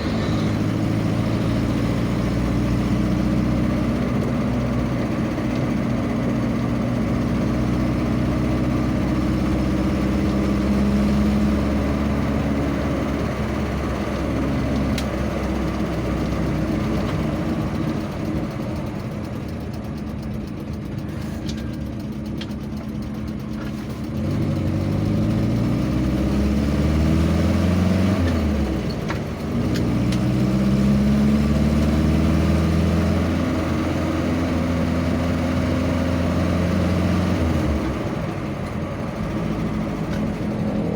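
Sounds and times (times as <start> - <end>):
vehicle engine accelerating: 0.0 - 40.9.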